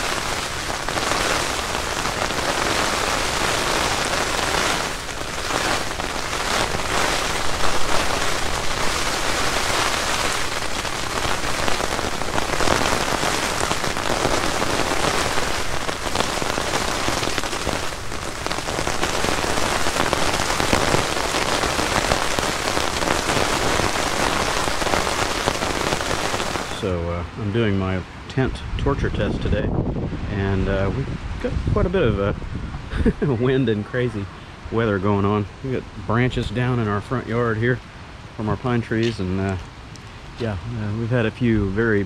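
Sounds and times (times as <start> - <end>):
rain on a tent: 0.0 - 42.0.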